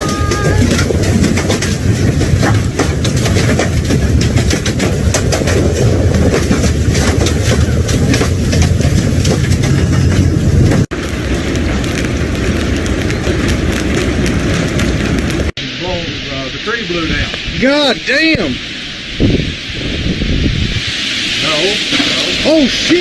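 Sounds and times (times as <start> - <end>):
sharp crackles: 0.0 - 23.0
storm wind roaring: 0.0 - 23.0.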